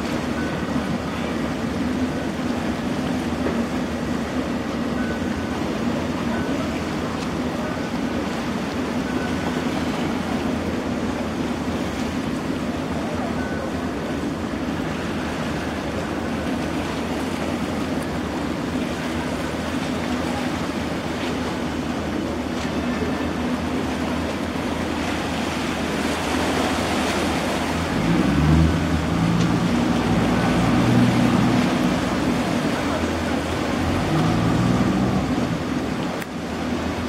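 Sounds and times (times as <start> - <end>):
churned water washing: 0.0 - 37.0
ferry diesel engines running: 0.0 - 37.0.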